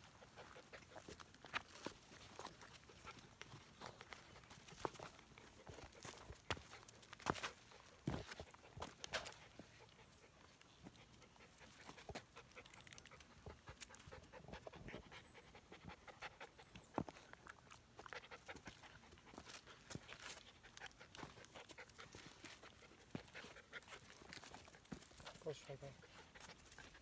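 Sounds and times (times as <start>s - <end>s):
puppy panting: 0.0s - 27.0s.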